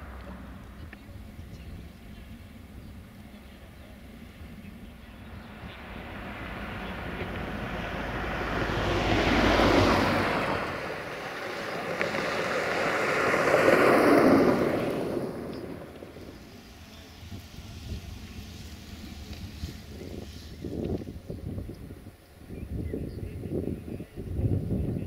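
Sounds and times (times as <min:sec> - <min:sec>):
cars passing: 0:00.0 - 0:22.4.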